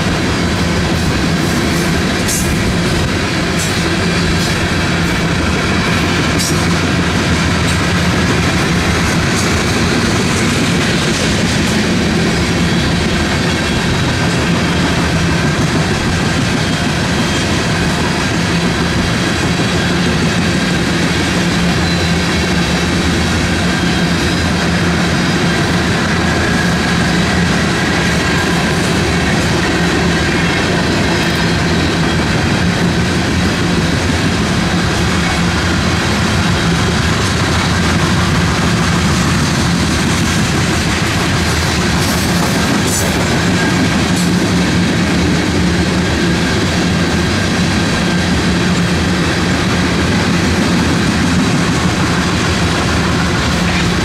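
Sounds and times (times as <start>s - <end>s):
train wheels rolling on rail: 0.0s - 54.0s.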